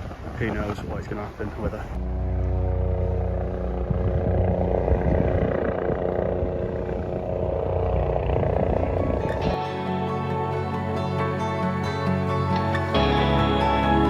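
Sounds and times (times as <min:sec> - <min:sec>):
helicopter engine and rotor: 0:02.3 - 0:13.8.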